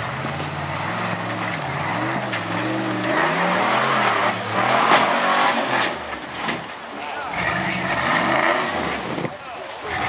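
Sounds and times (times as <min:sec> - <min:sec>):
engine revving: 0:00.0 - 0:06.5, 0:07.3 - 0:09.2.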